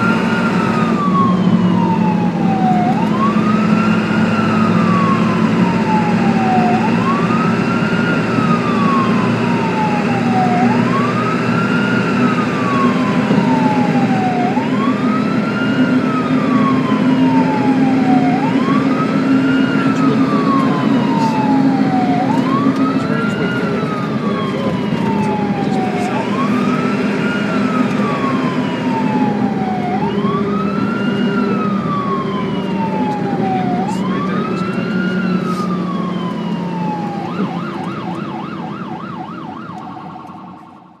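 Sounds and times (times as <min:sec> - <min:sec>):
ambulance siren wailing: 0:00.0 - 0:41.0
low vehicle rumble: 0:00.0 - 0:41.0
siren warbling yelp: 0:00.0 - 0:41.0.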